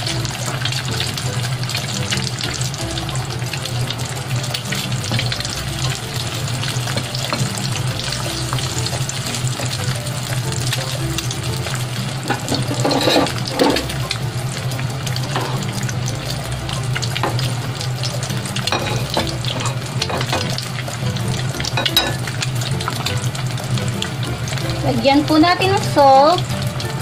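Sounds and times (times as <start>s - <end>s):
egg sizzling in frying pan: 0.0s - 27.0s.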